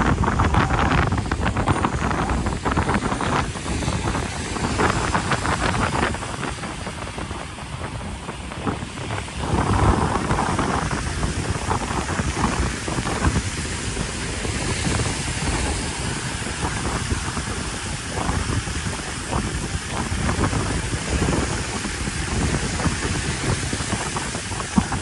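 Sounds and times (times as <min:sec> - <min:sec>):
outdoor rushing noise: 0:00.0 - 0:25.0
wind buffeting microphone: 0:00.0 - 0:25.0.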